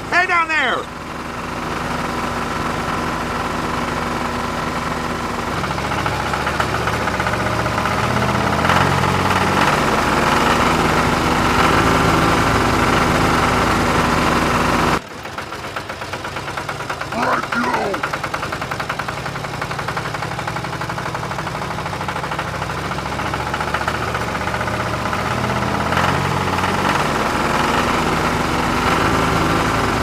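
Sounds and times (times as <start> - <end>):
engine droning with whine: 0.0 - 30.0.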